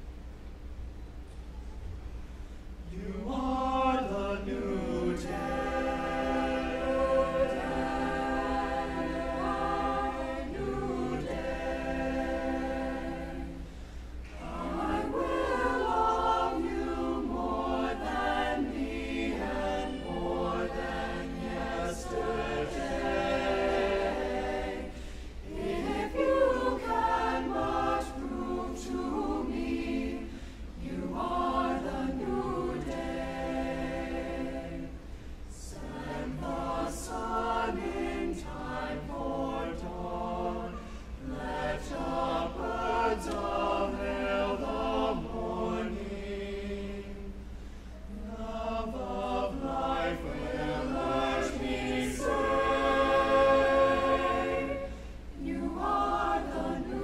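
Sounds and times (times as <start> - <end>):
mixed choir singing a cappella: 2.8 - 57.0.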